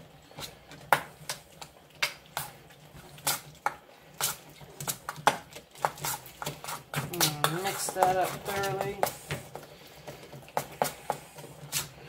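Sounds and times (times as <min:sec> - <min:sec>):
utensil stirring in metal bowl: 0:00.0 - 0:12.0.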